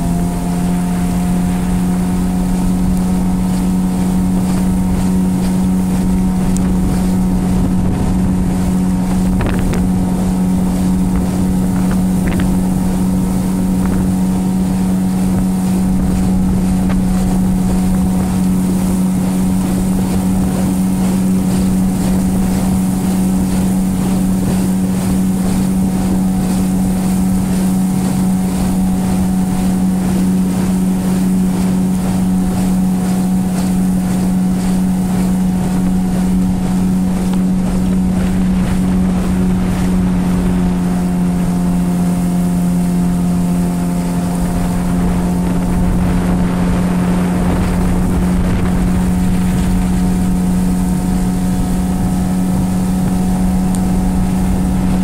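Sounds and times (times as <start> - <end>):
boat motor droning: 0.0 - 55.0.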